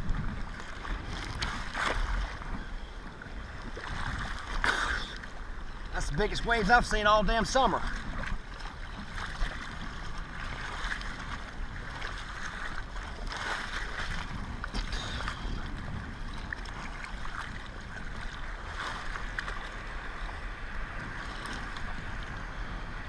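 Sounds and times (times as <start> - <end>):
wind buffeting microphone: 0.0 - 4.7, 5.4 - 23.0.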